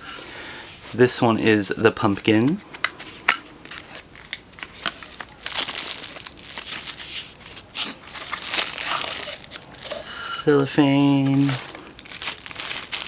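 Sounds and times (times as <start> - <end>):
cellophane crinkling: 2.0 - 13.0.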